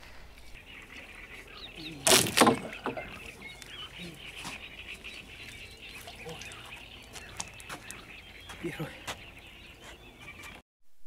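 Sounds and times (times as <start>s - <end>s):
faint open-air background: 0.0s - 10.6s
small birds chirping: 0.4s - 10.6s.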